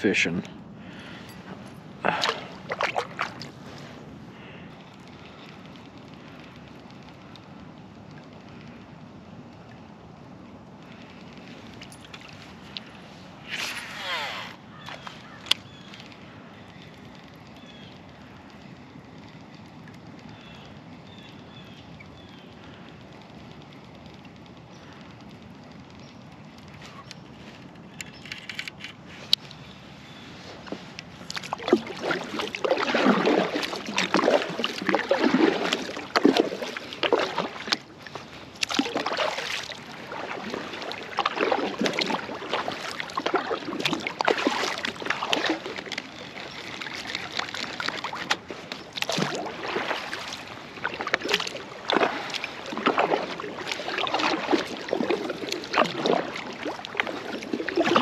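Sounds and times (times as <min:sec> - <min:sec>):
water sloshing around kayak: 0:00.8 - 0:08.9, 0:10.7 - 0:58.0.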